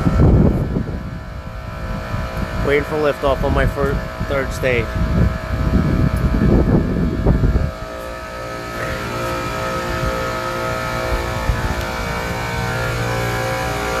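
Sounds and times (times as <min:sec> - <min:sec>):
hvac unit humming: 0:00.0 - 0:14.0
loud low rumble: 0:00.0 - 0:14.0.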